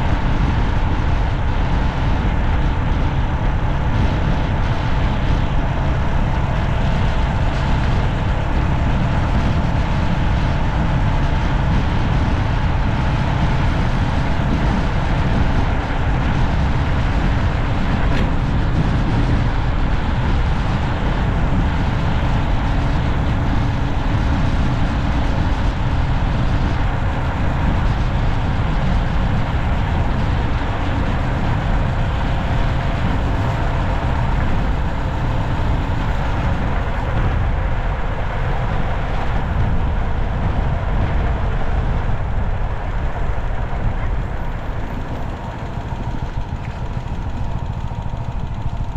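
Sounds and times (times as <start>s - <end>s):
car road noise: 0.0s - 48.9s.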